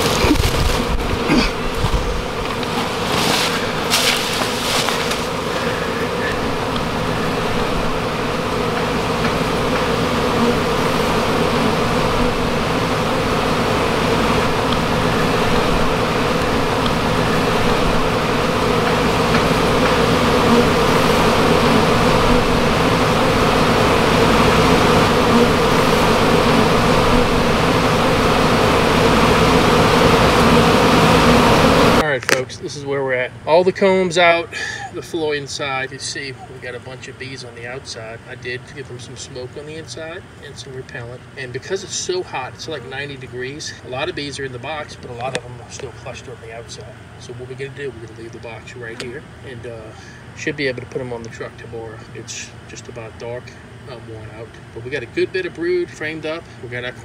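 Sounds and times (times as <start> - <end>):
honey bees buzzing: 0.0 - 57.0.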